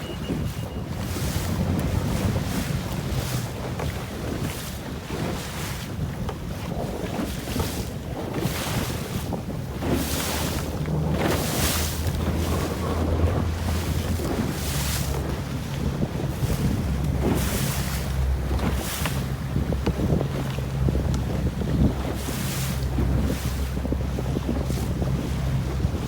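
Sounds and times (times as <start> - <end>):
water splashing along hull: 0.0 - 26.0
wind buffeting microphone: 0.0 - 26.0.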